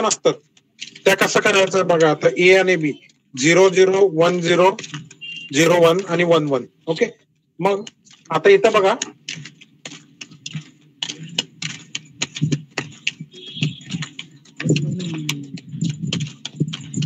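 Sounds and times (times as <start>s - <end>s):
microphone clicks and taps: 0.4s - 2.3s, 3.8s - 17.0s.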